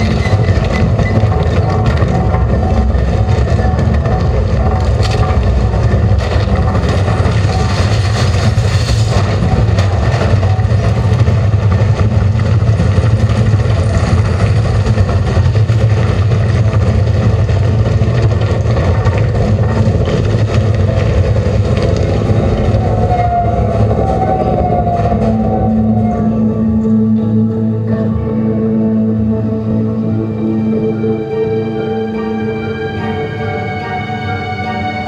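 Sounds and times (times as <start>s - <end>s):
loud engine-like rumble: 0.0s - 35.0s.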